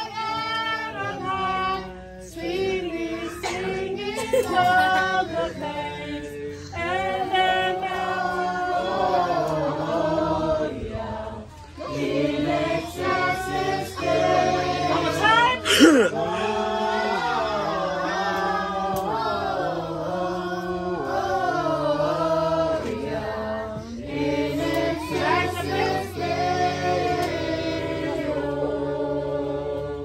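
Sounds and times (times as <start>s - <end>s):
adults and children singing a carol: 0.0s - 30.0s.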